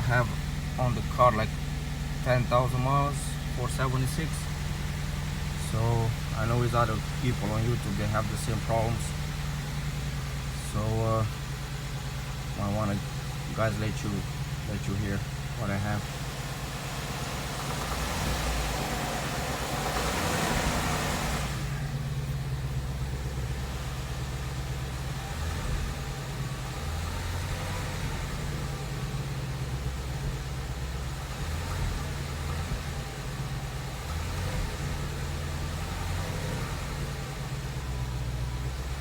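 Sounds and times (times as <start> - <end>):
car engine running at low revs: 0.0 - 39.0.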